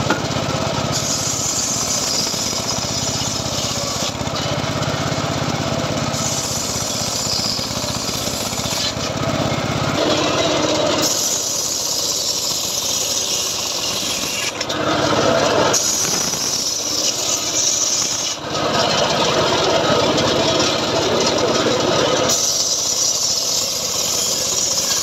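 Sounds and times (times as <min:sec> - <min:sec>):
circular saw ripping wood: 0:00.0 - 0:25.0.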